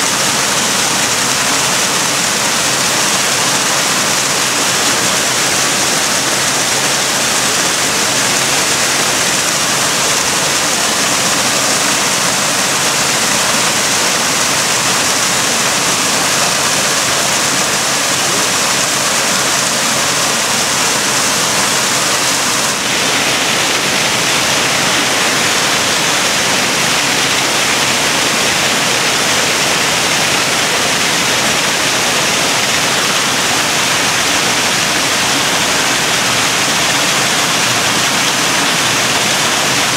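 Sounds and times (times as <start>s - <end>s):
waterfall splashing into pool: 0.0s - 39.9s.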